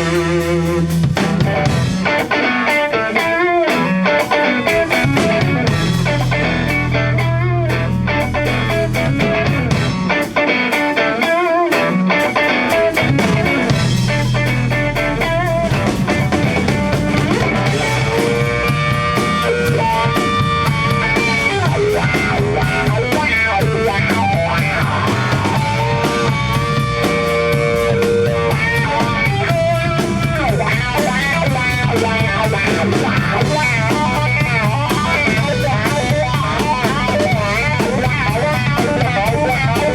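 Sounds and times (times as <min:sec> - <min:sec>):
bass guitar: 0:00.0 - 0:39.9
drum kit: 0:00.0 - 0:39.9
electric guitars: 0:00.0 - 0:39.9
long held guitar notes: 0:00.0 - 0:39.9.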